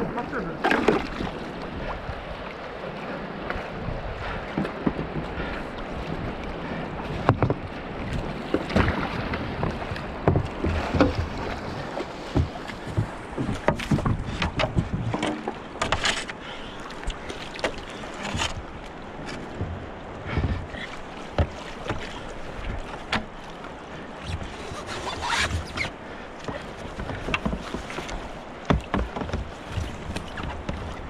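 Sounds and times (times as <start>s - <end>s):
paddle strokes splashing: 0.0s - 31.0s
river water rushing: 0.0s - 31.0s.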